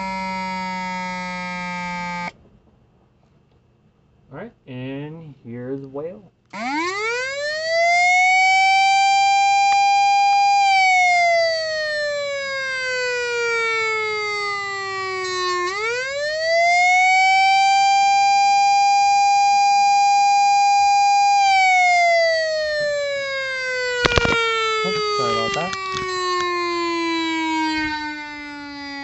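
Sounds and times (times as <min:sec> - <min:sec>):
electronic siren wailing: 0:00.0 - 0:02.4, 0:06.5 - 0:29.0.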